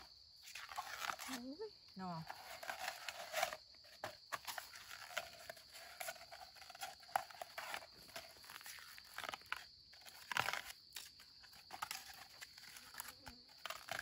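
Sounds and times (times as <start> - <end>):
husk tearing off bamboo shoot: 0.0 - 1.4, 2.3 - 14.0.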